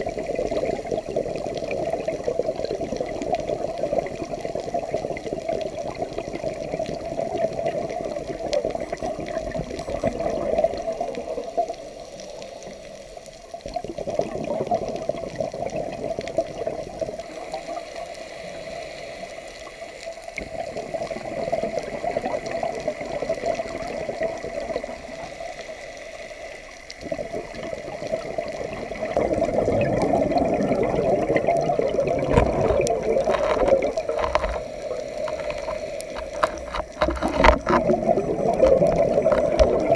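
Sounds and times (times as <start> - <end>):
exhaled bubbles underwater: 0.0 - 39.9.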